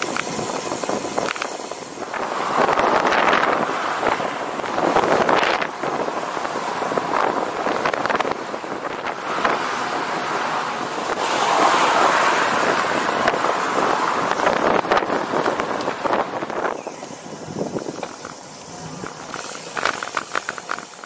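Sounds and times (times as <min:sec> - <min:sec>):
passing road traffic: 0:00.0 - 0:21.0
wind rushing over microphone: 0:00.0 - 0:21.0.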